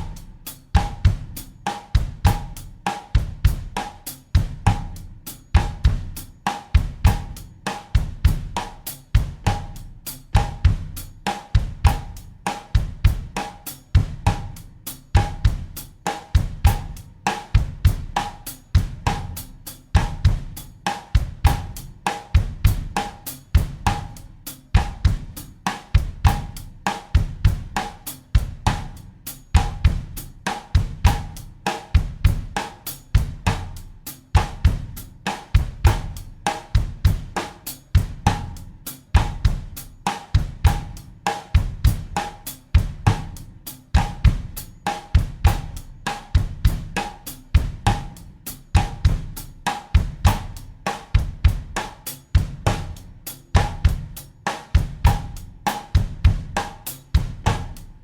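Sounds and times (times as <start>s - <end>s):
drum kit bossa nova groove: 0.0s - 58.0s.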